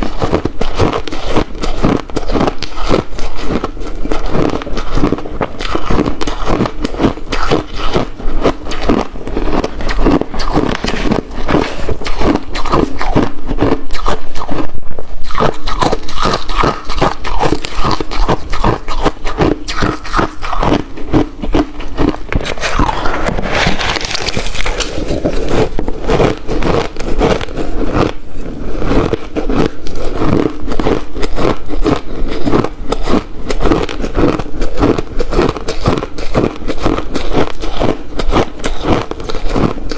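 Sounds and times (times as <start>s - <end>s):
chewing ice: 0.0s - 39.9s.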